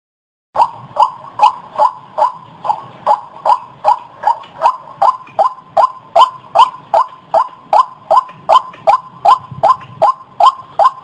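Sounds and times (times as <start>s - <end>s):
waterhen calling: 0.6s - 11.0s.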